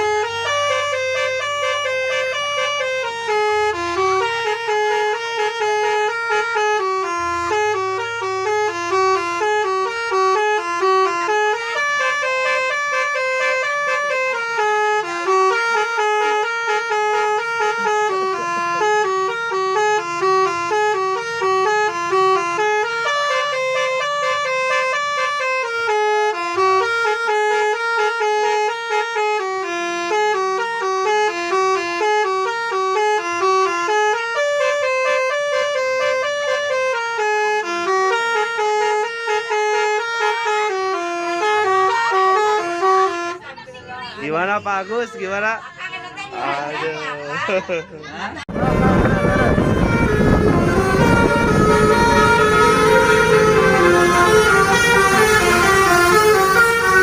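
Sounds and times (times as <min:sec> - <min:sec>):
multi-tone air horn melody: 0:00.0 - 0:43.5, 0:48.5 - 0:57.0.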